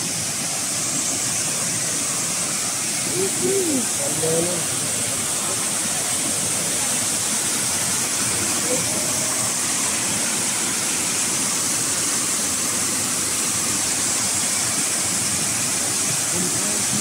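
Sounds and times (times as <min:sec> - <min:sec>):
waterfall cascading over rocks: 0:00.0 - 0:17.0.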